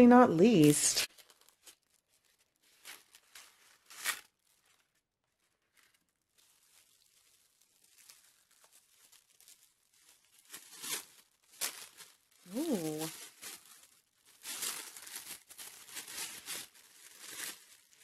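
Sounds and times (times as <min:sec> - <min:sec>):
packaging crinkling: 0:00.6 - 0:18.0.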